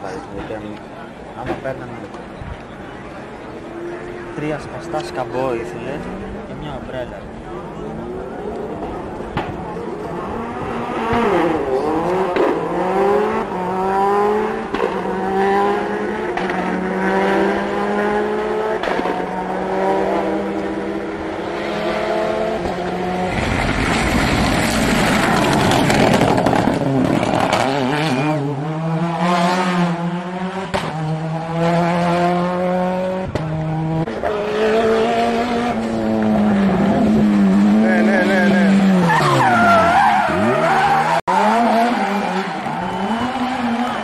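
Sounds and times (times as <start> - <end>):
car passing with tyre noise: 1.5 - 44.0
rally car engine revving: 7.2 - 44.0.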